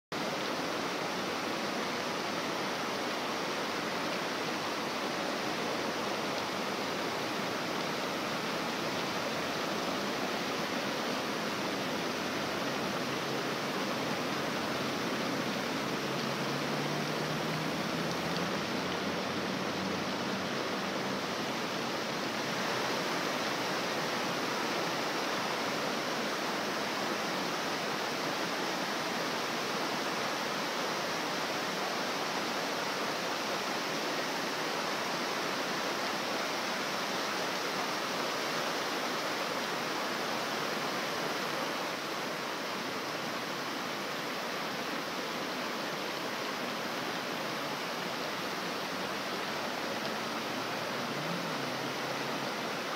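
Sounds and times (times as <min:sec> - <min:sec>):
fountain water splashing: 0:00.2 - 0:52.9.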